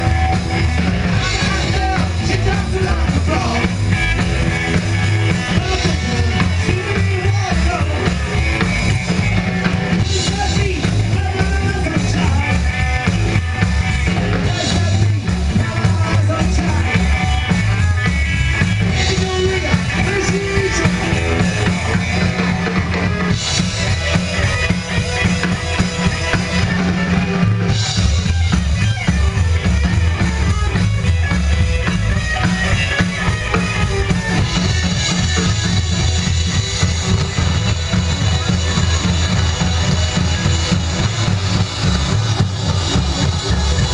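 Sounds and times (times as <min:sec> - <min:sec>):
bass: 0:00.0 - 0:43.9
driving drum kit: 0:00.0 - 0:43.9
rockabilly band playing live: 0:00.0 - 0:43.9.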